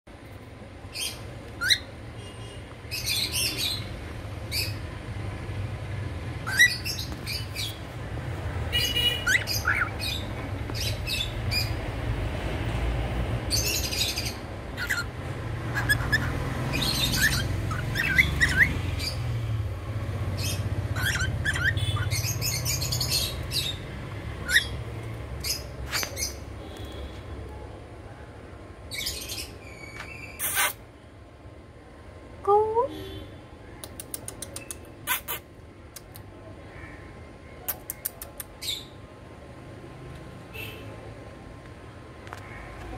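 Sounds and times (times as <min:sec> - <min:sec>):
birds chirping: 0:00.4 - 0:27.7, 0:28.8 - 0:31.2, 0:33.1 - 0:39.2.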